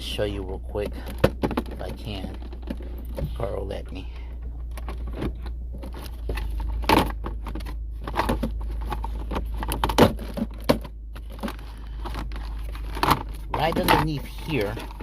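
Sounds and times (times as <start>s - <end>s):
plastic parts clicking and scraping: 0.7s - 15.0s.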